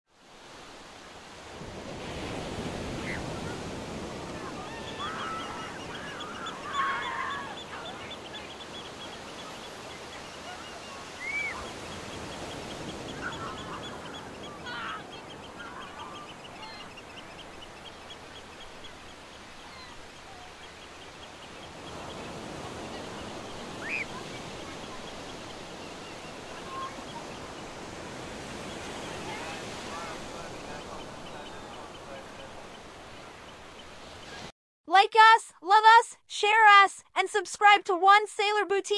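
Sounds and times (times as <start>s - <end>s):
wind: 0.1s - 34.5s
surf: 0.2s - 34.5s
gulls calling: 1.8s - 34.5s.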